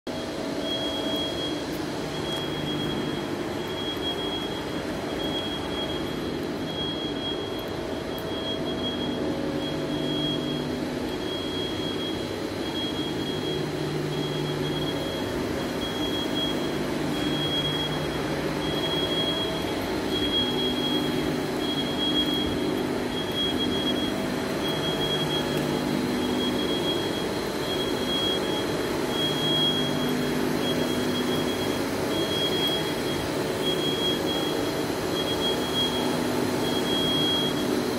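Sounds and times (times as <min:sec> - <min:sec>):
machinery hum: 0:00.1 - 0:37.9.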